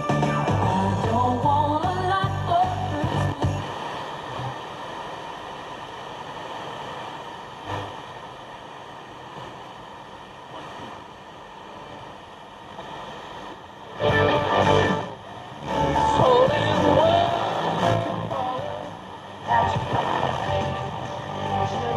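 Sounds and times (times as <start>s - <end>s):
radio static hiss: 0.0s - 21.9s.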